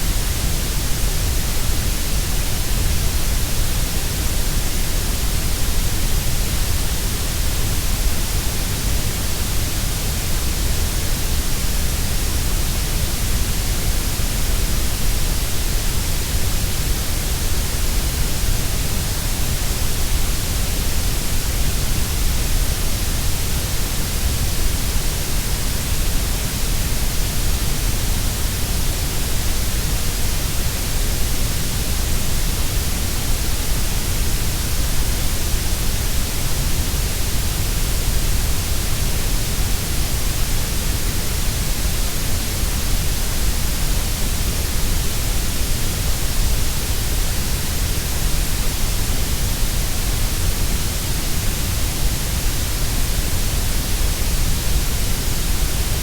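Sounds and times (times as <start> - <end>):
grey noise hiss: 0.0 - 56.0.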